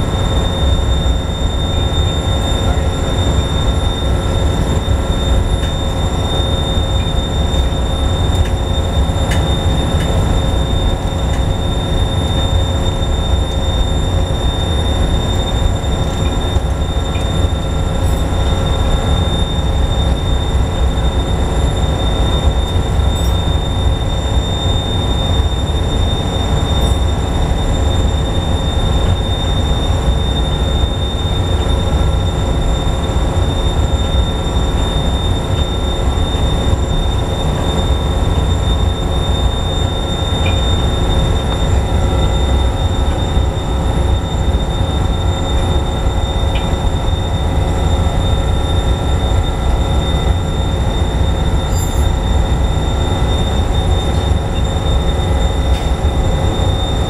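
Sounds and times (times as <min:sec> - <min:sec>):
constant high whine: 0:00.0 - 0:57.0
heavy industrial machinery drone: 0:00.0 - 0:57.0.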